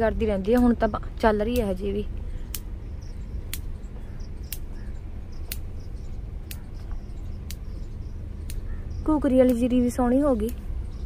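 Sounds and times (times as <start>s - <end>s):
electric fence energizer ticking: 0.0s - 11.0s
low car rumble: 0.0s - 11.0s.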